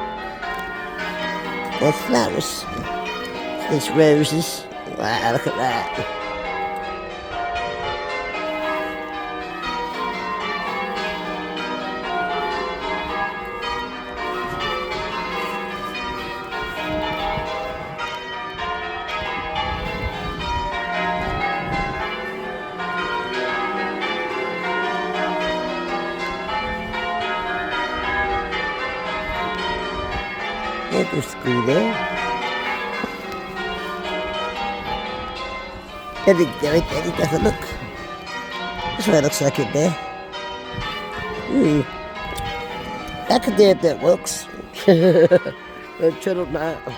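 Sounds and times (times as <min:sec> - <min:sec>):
church bells pealing: 0:00.0 - 0:46.9.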